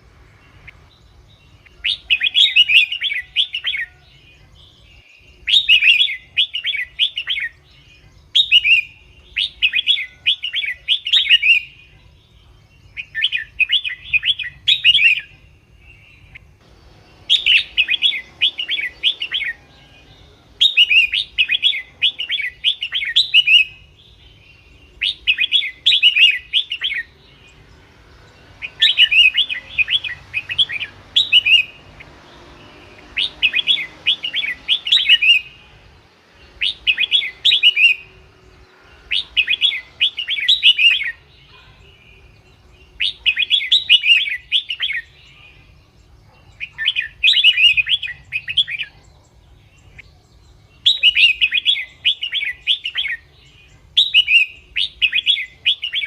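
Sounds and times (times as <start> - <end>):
bulbul singing: 0.0 - 56.0.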